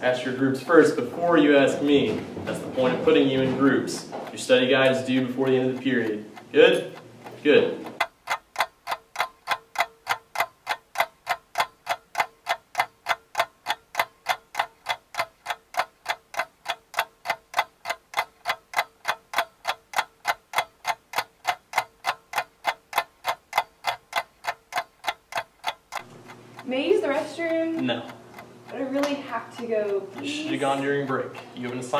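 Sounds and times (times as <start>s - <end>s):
clock ticking fast: 0.0s - 31.9s
faint steady hum: 0.0s - 31.9s.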